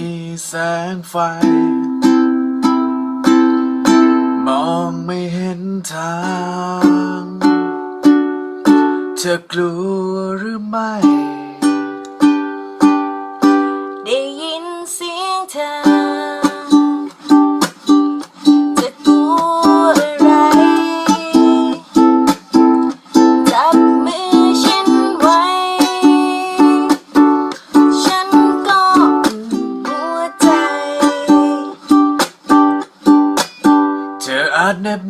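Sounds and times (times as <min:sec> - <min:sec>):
person singing: 0:00.0 - 0:02.1, 0:04.4 - 0:07.9, 0:08.6 - 0:12.4, 0:13.4 - 0:32.2, 0:33.8 - 0:35.0
ukulele strumming: 0:00.0 - 0:35.0.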